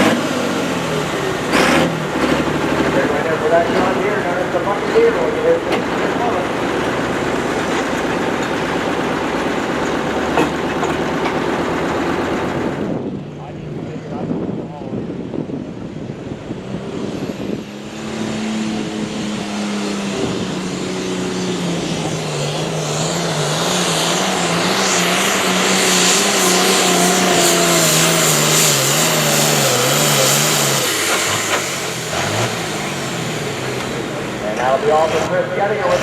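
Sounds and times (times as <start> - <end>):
tractor engine running hard: 0.0 - 36.0.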